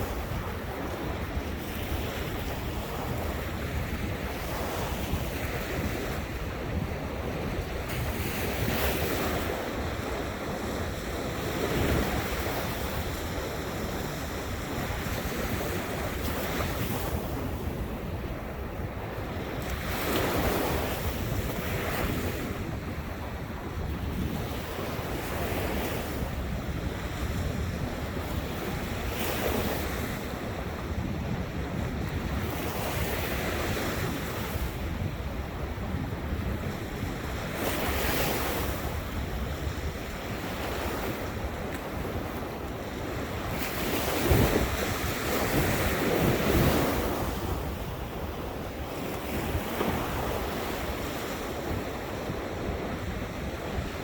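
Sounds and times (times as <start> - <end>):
waves breaking on a beach: 0.0 - 54.0
wind rumbling on microphone: 0.0 - 54.0.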